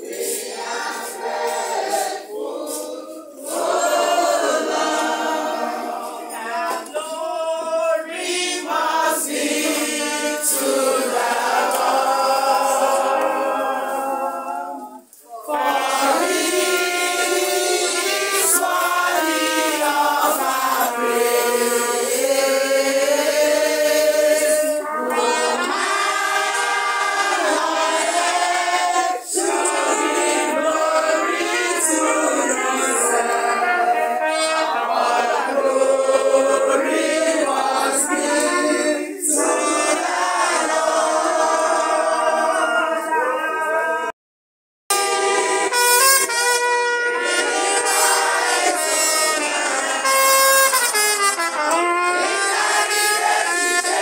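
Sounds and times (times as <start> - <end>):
group singing in unison: 0.0 - 44.2, 44.9 - 54.0.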